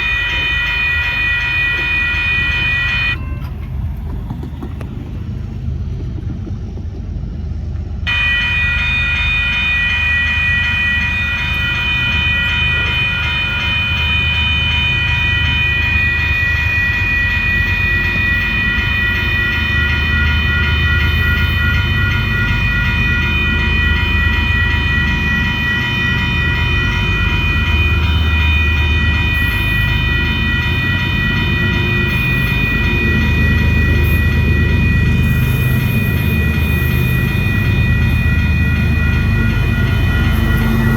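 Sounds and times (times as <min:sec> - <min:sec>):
train rumbling by: 0:00.0 - 0:40.9
high-pitched tonal whine: 0:08.0 - 0:40.9.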